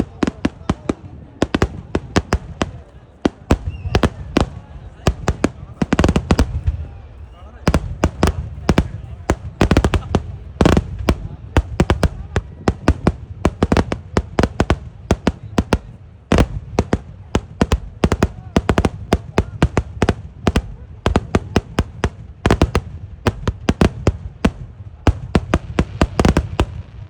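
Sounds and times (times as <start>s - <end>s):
fireworks explosions: 0.0s - 27.0s
low rumble of echoing blasts: 0.0s - 27.0s.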